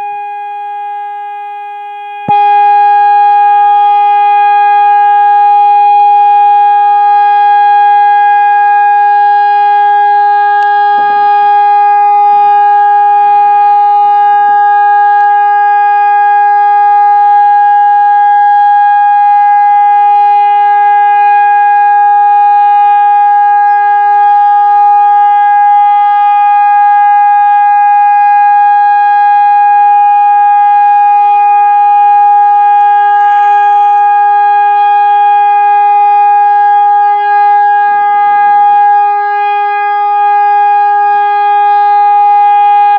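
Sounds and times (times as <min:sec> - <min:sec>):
electronic siren steady tone: 0:00.0 - 0:42.9.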